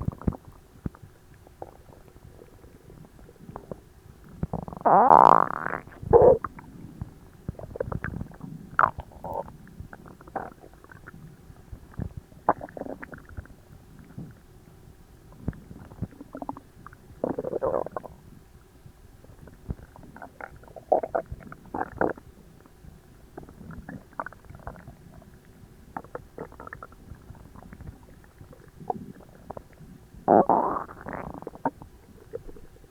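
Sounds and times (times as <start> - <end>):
stomach gurgling and rumbling: 0.0 - 32.9.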